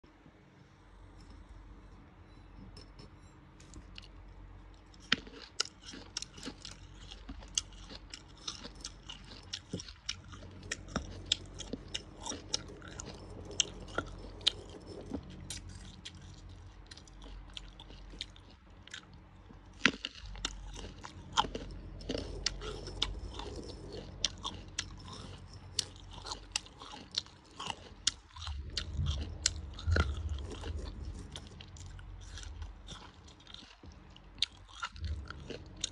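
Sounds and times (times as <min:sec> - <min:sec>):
chewing: 0:03.6 - 0:35.9
crunching bites of fruit: 0:05.0 - 0:35.9.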